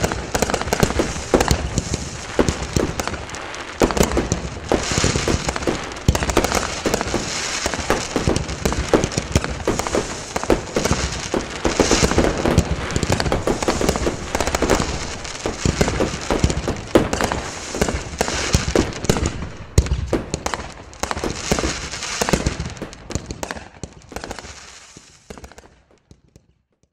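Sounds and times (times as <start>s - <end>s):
fireworks bangs and crackling: 0.0s - 26.8s.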